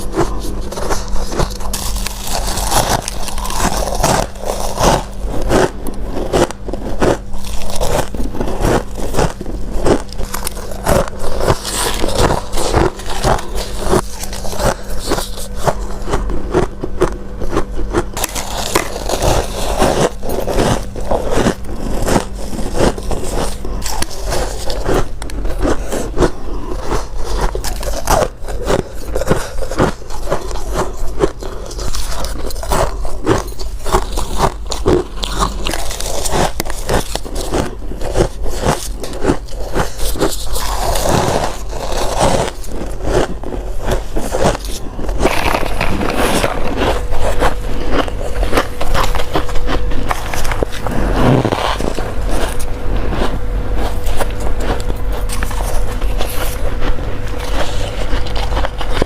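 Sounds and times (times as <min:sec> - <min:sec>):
chewing crunchy frost: 0:00.0 - 0:59.0.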